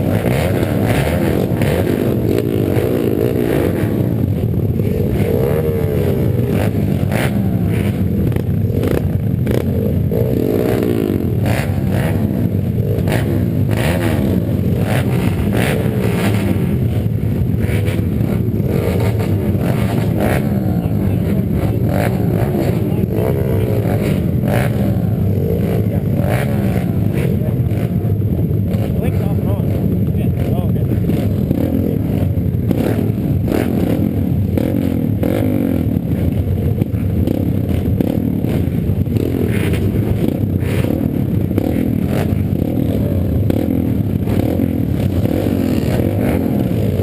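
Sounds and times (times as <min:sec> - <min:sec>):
pit bike engine revving: 0:00.0 - 0:47.0.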